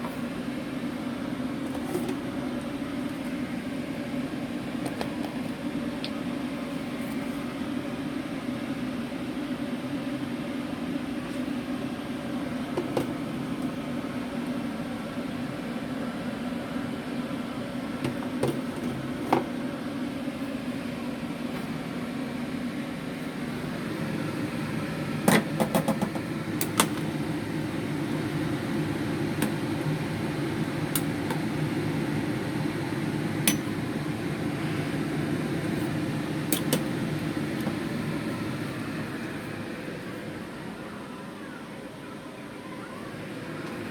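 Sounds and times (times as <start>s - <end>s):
steady mechanical hum: 0.0s - 43.9s.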